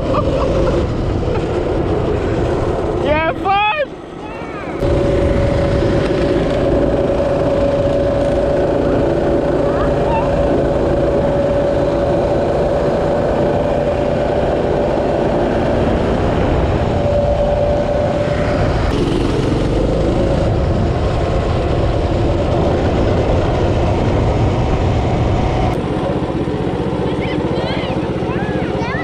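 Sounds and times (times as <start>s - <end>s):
go-kart engine running: 0.0s - 29.0s
steady whine: 0.0s - 29.0s.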